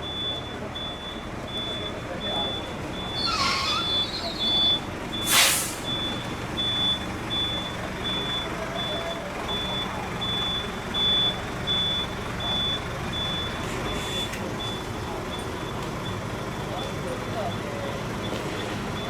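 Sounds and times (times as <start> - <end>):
truck engine running: 0.0 - 19.0
truck reversing alarm beeping: 0.0 - 19.0.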